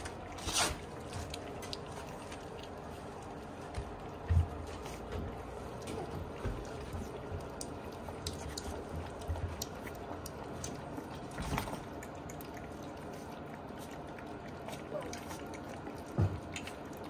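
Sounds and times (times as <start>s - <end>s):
puppies lapping food: 0.0s - 17.0s.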